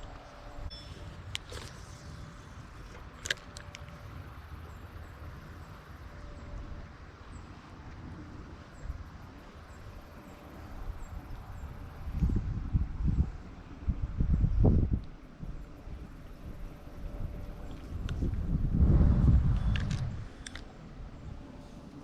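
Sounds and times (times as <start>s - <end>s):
gusts buffeting the microphone: 0.0s - 22.0s
wind rumbling on microphone: 0.0s - 22.0s.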